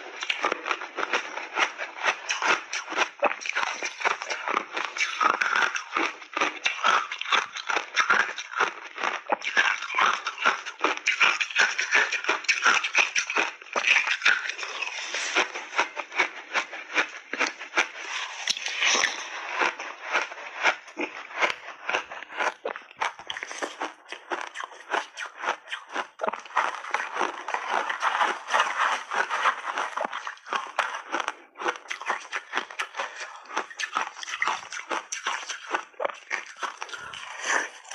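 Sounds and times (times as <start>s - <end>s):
ice being chewed: 0.0s - 37.9s.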